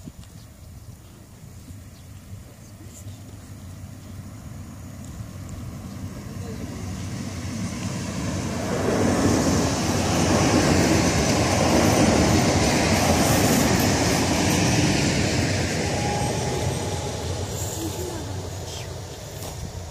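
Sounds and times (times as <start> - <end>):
train passing at speed: 3.4 - 19.9.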